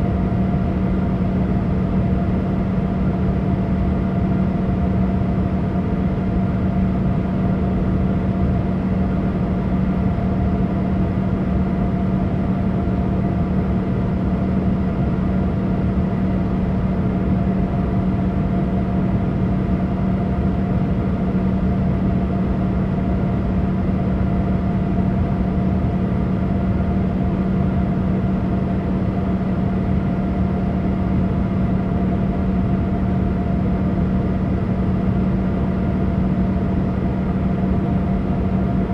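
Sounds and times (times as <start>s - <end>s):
airplane cabin engine rush: 0.0s - 38.9s
constant low hum: 0.0s - 38.9s.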